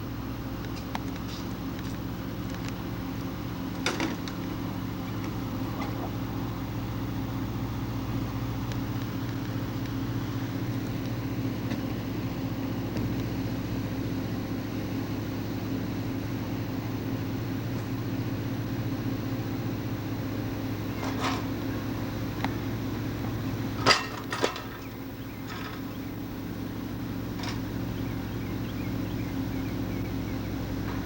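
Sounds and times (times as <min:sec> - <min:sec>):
bus engine idling: 0:00.0 - 0:31.0.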